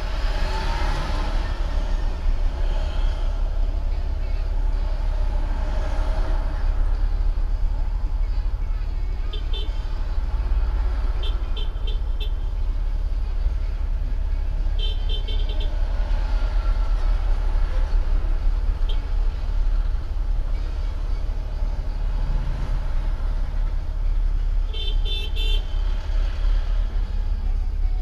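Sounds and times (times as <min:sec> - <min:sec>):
road traffic rumble: 0:00.0 - 0:28.0
trucks passing: 0:00.0 - 0:28.0.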